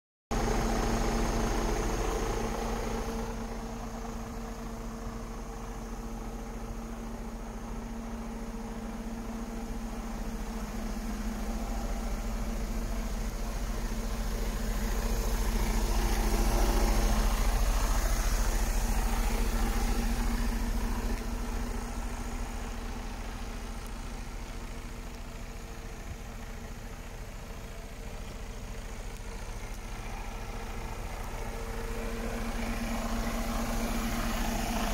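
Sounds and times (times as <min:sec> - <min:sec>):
diesel engine idling: 0:00.3 - 0:34.9.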